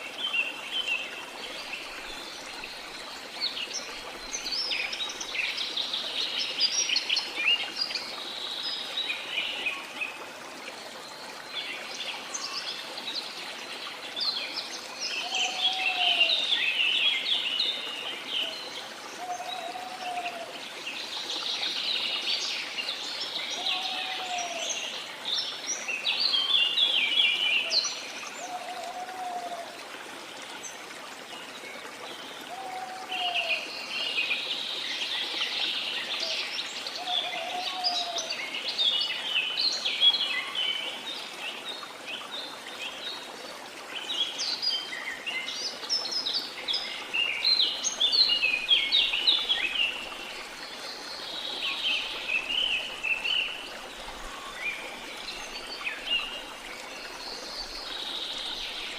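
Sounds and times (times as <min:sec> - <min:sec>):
flowing stream: 0:00.0 - 0:58.9.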